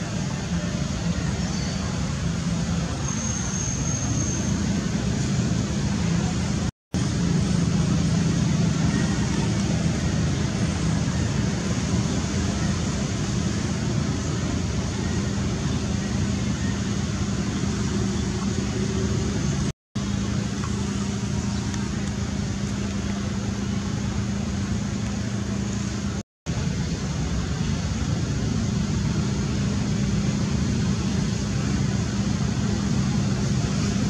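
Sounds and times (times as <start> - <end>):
steady rushing noise: 0.0 - 3.1, 4.4 - 34.0.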